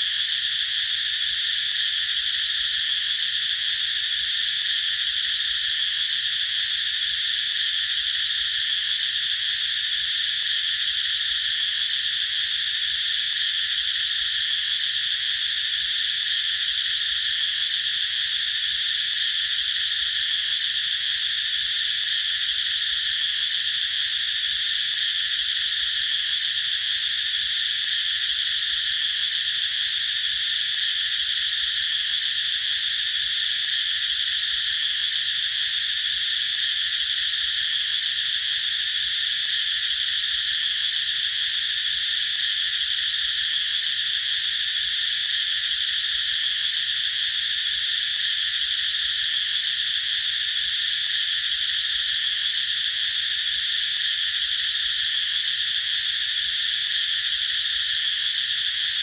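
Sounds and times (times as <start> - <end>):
cicadas singing: 0.0 - 59.0.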